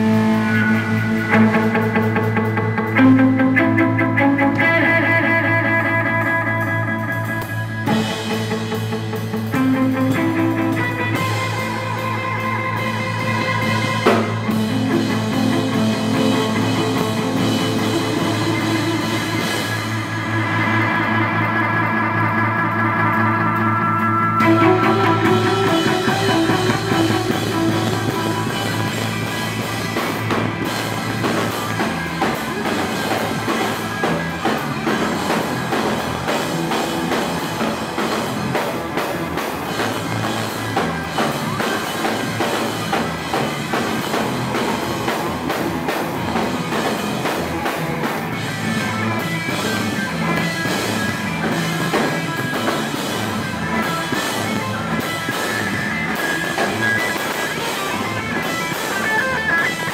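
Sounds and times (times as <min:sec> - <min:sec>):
rock music with drums and guitar: 0:00.0 - 0:59.9.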